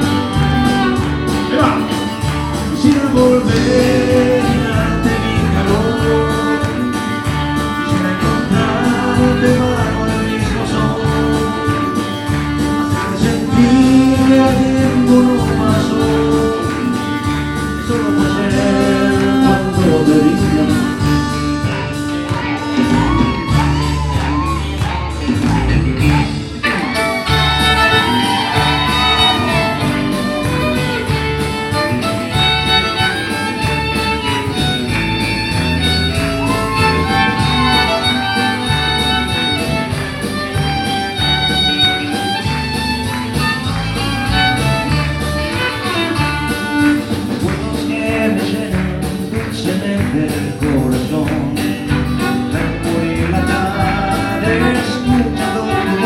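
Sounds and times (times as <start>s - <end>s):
fiddle: 0.0s - 48.4s, 51.9s - 56.0s
live country band instrumental: 0.0s - 56.0s.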